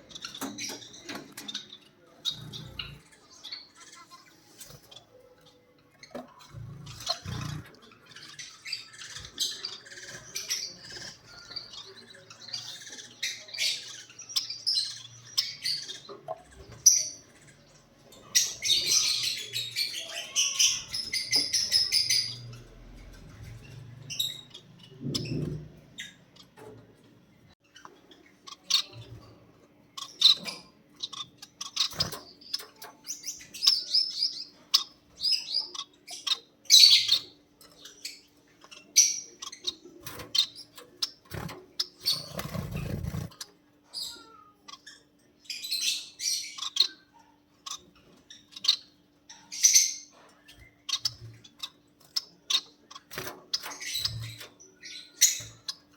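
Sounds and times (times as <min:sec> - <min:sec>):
lovebirds chirping: 0:00.0 - 0:55.9.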